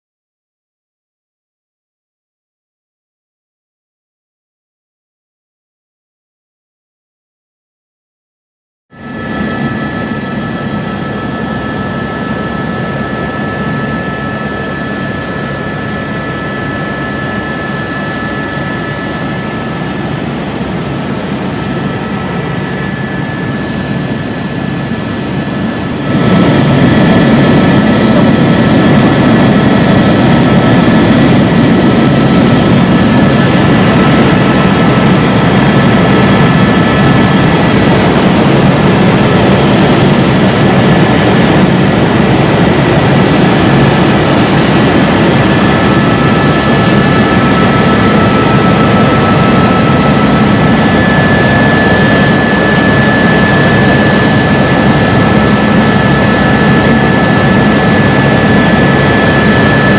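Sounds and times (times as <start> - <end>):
helicopter rotor and engine rumble: 8.9 - 59.9
turbine whine: 8.9 - 59.9.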